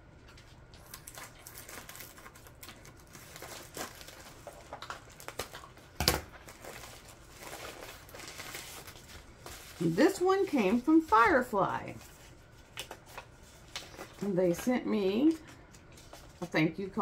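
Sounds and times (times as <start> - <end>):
plastic mailer crinkling: 0.4 - 16.5.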